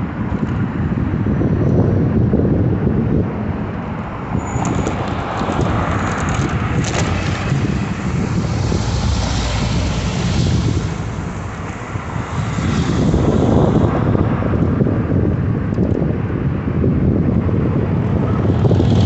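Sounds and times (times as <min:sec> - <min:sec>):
wind noise on microphone: 0:00.0 - 0:19.0
road traffic passing: 0:03.4 - 0:19.0.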